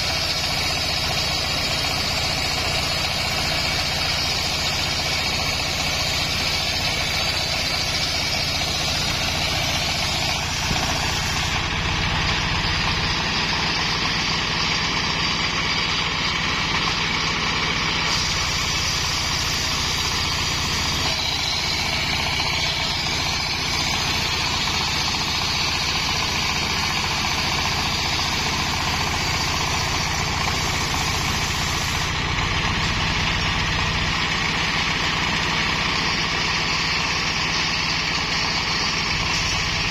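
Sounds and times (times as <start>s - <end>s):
saw blade cutting timber: 0.0s - 39.9s
stationary engine running: 0.0s - 39.9s.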